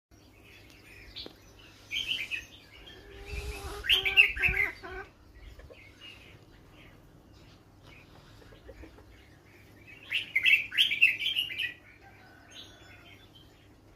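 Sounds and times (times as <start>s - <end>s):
bird chirping: 0.1s - 13.9s.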